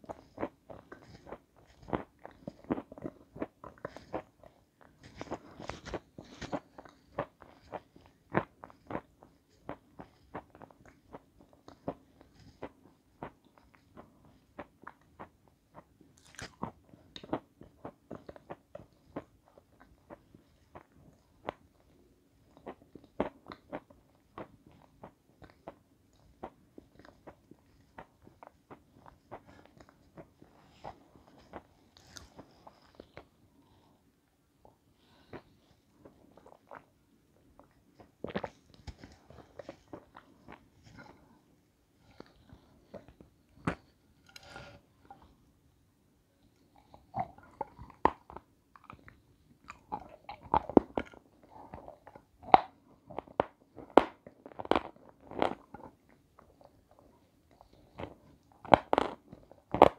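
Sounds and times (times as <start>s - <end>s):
crunching and chewing: 0.0s - 33.9s, 35.0s - 41.4s, 46.5s - 59.9s.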